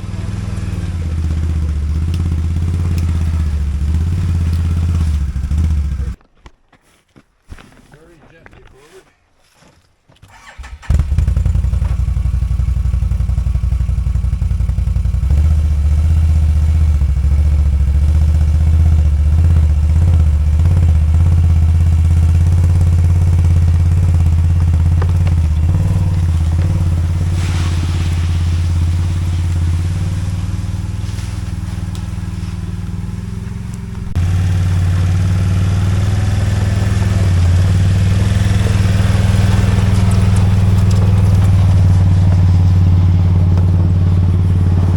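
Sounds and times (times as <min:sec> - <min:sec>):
engine running steadily: 0:00.0 - 0:06.2, 0:10.3 - 0:44.9.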